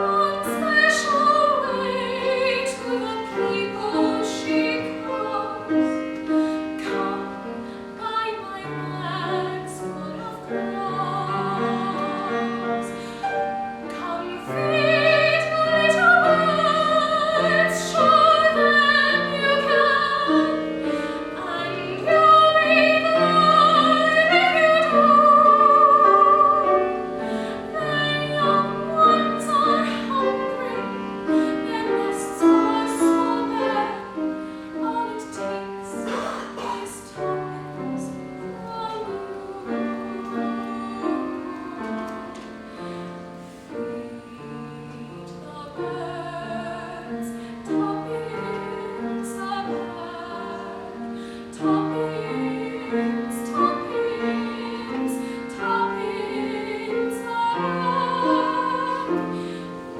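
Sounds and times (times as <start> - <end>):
classical singer with vibrato: 0.0 - 59.9
piano accompaniment: 0.0 - 59.9.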